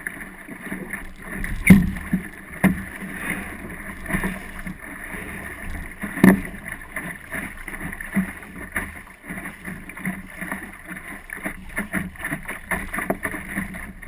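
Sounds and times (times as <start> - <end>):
water splashing against hull: 0.0 - 14.0.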